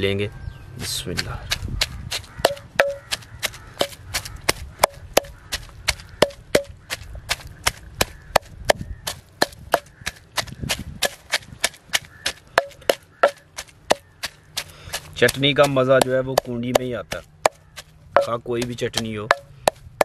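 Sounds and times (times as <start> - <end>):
wooden pestle pounding in mortar: 1.1 - 20.0.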